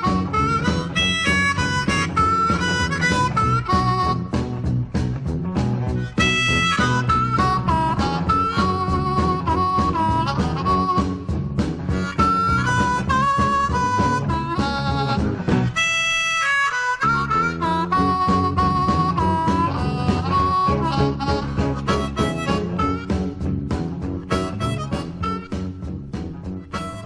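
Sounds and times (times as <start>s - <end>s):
harmonica solo: 0.0s - 4.9s, 5.8s - 27.0s
blues-rock band playing: 0.0s - 27.0s.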